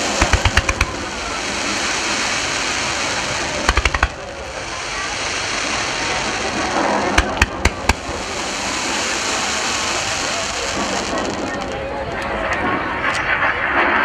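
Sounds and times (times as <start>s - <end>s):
firework shells bursting: 0.0s - 11.8s.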